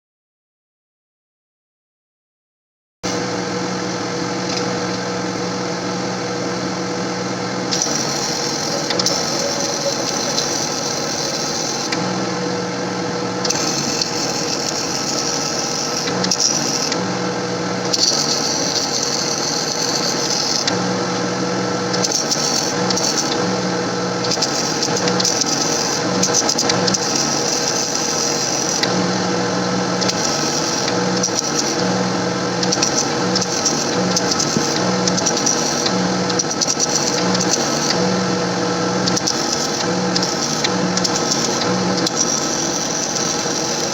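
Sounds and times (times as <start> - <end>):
small motor running: 3.1 - 43.9.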